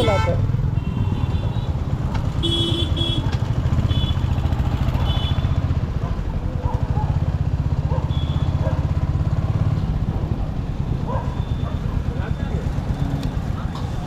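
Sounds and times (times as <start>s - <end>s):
motorcycle engine running: 1.3s - 14.0s.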